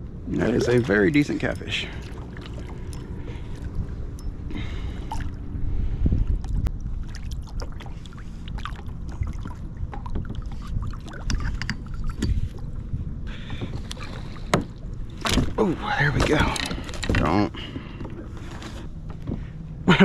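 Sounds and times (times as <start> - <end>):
wind rumble on microphone: 0.0 - 20.0
water splashing and sloshing: 0.1 - 19.6.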